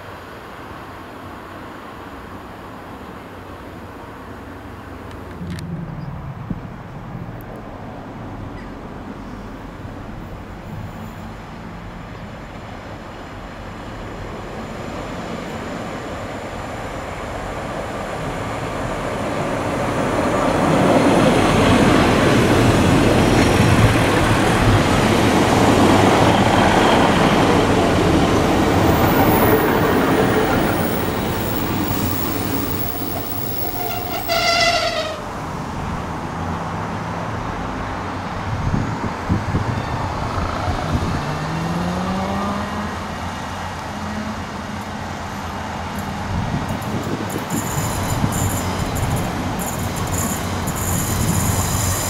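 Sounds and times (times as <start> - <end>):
diesel train passing: 0.0 - 42.1, 42.8 - 52.0.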